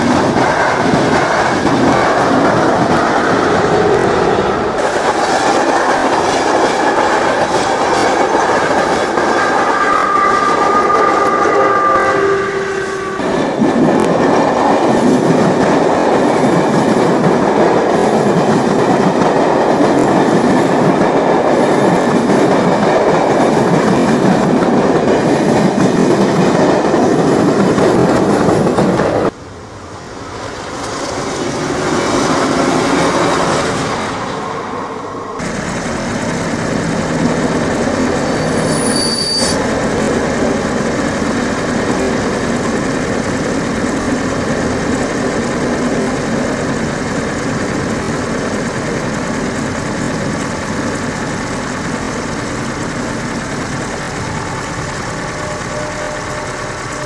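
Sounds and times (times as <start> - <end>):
train clattering on rails: 0.0 - 57.0.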